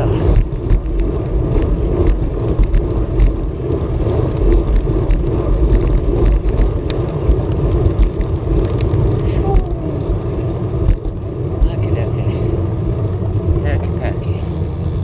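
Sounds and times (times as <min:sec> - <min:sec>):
bicycle road rumble: 0:00.0 - 0:15.0
loud wind rush on microphone: 0:00.0 - 0:15.0.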